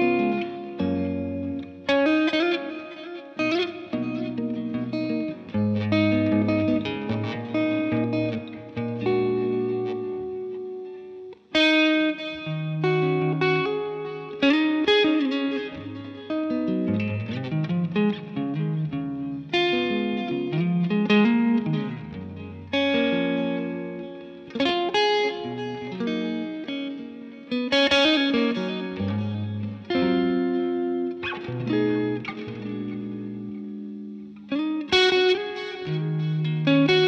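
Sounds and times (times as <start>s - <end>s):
electric guitar chords and notes: 0.0s - 37.0s.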